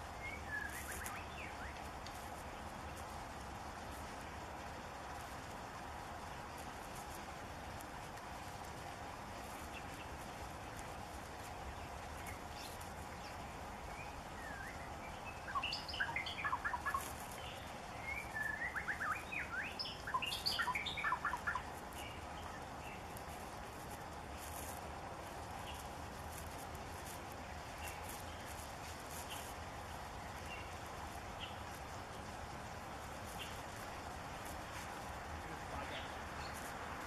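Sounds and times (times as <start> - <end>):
background hiss: 0.0 - 37.0
songbird singing: 0.0 - 37.0.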